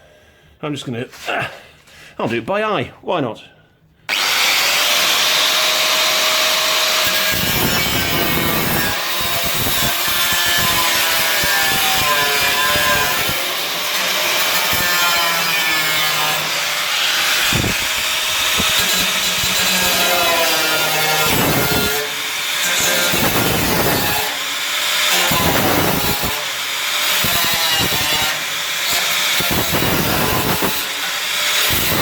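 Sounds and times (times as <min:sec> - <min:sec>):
power tool cutting steel: 0:04.1 - 0:32.0.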